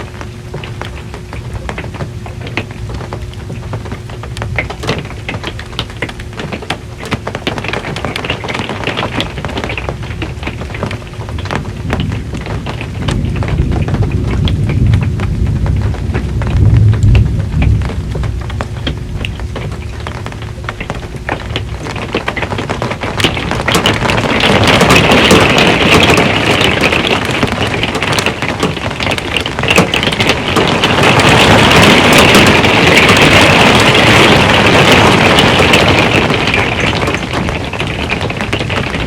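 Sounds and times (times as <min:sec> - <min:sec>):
heavy rain on a metal roof: 0:00.0 - 0:39.0.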